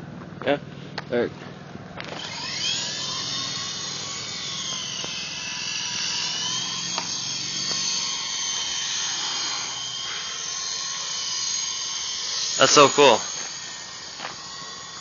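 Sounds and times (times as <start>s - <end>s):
toy helicopter motor whining: 2.0s - 15.0s.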